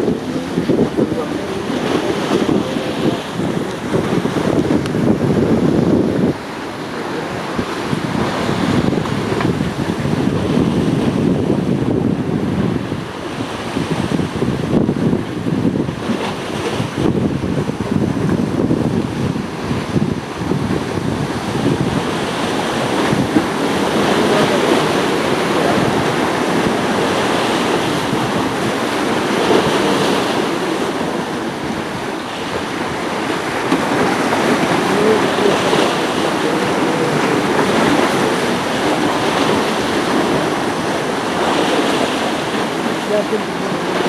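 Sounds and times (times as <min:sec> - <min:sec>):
water and waves rushing: 0:00.0 - 0:44.0
wind on microphone: 0:00.0 - 0:44.0.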